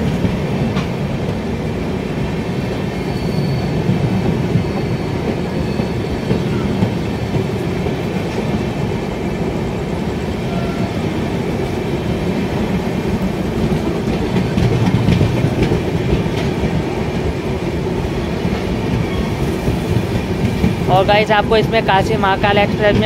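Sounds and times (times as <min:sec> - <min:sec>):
train coaches rumbling and clattering: 0:00.0 - 0:23.0.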